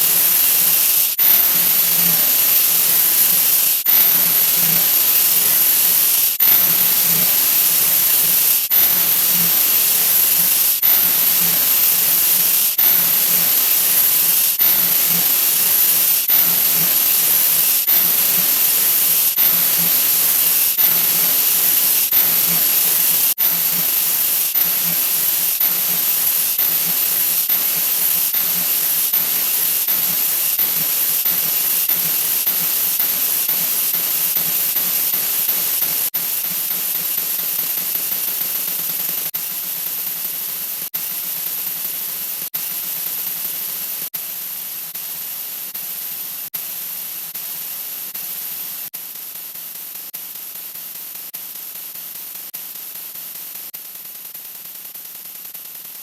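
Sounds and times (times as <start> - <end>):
high static-like hiss: 0.0 - 56.0.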